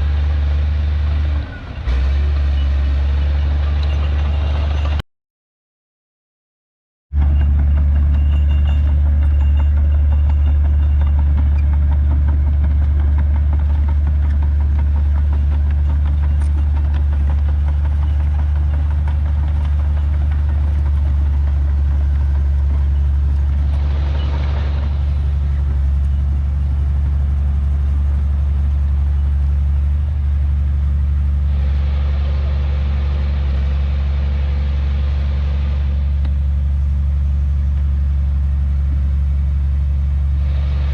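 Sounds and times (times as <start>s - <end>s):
diesel engine droning: 0.0s - 5.0s, 7.1s - 40.9s.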